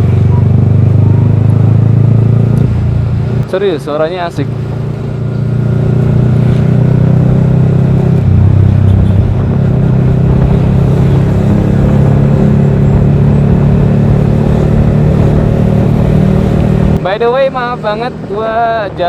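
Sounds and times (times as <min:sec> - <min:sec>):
motorcycle engine deep exhaust note: 0:00.0 - 0:18.0.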